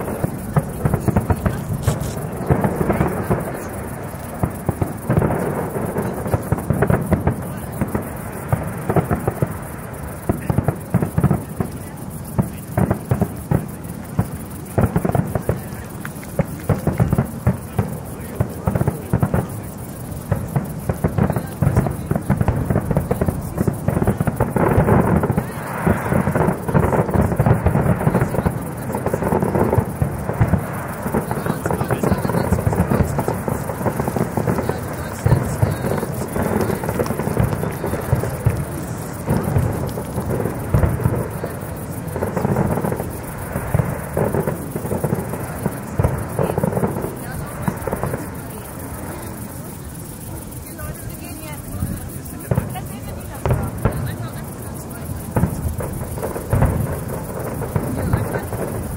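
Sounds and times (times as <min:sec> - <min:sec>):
crackling hiss: 0:00.0 - 0:58.9
firework bangs: 0:00.0 - 0:58.9.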